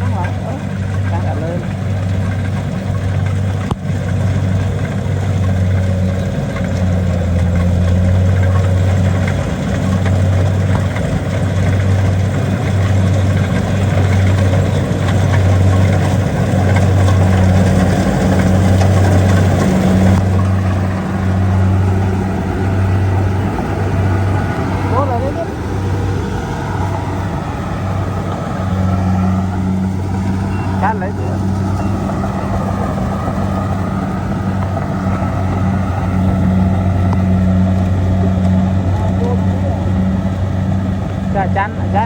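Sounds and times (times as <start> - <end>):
combine harvester running: 0.0 - 42.0.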